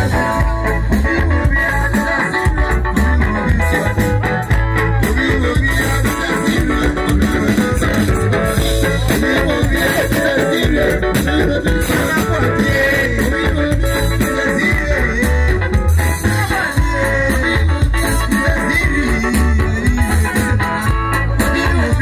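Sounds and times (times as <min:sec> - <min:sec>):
live band playing dance music: 0:00.0 - 0:22.0
pulsing bass beat: 0:00.0 - 0:22.0.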